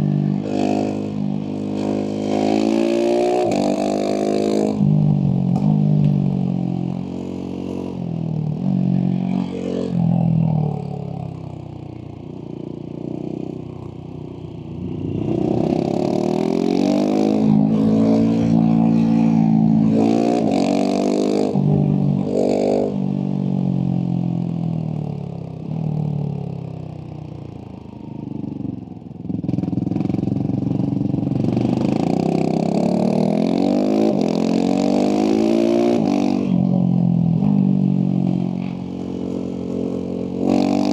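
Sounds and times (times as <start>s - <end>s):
motorcycle engine accelerating: 0.0s - 26.7s, 27.4s - 40.9s.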